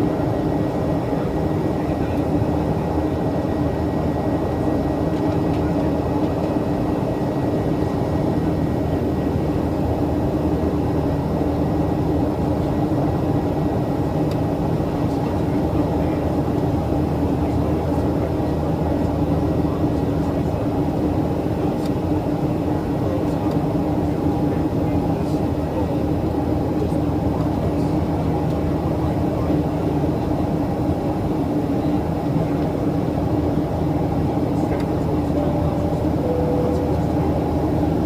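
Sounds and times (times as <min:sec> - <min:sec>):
airplane cabin drone: 0:00.0 - 0:38.0.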